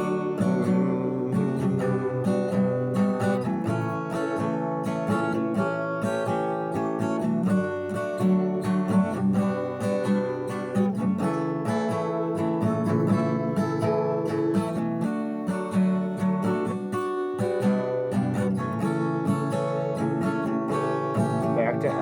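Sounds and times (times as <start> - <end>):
acoustic guitar strummed and picked: 0.0 - 22.0.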